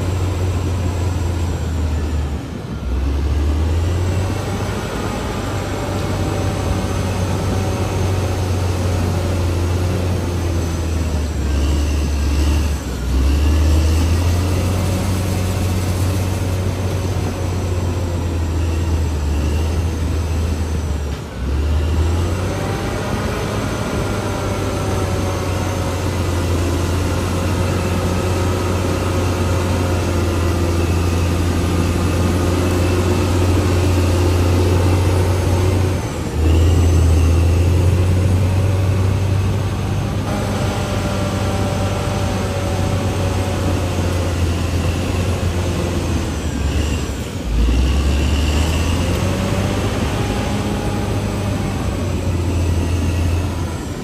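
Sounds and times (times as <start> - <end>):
bulldozer diesel engine rumbling: 0.0 - 54.0.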